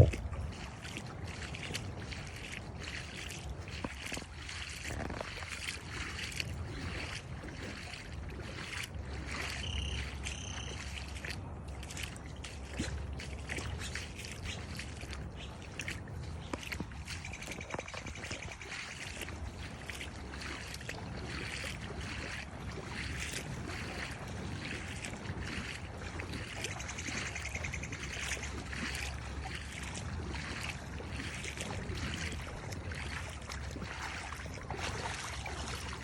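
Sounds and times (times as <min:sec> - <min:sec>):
water trickling and splashing: 0:00.0 - 0:36.0.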